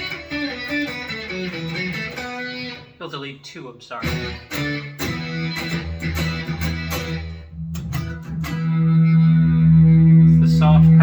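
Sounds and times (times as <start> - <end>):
synth lead guitar notes: 0.0 - 3.0, 4.0 - 11.0.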